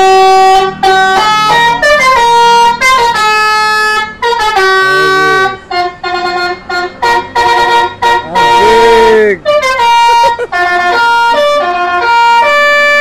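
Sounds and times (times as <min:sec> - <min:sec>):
multi-tone musical bus horn: 0:00.0 - 0:13.0.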